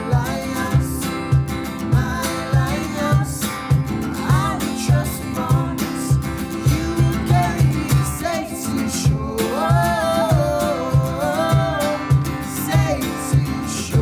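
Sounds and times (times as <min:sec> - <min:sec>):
song with acoustic guitar: 0:00.0 - 0:14.0.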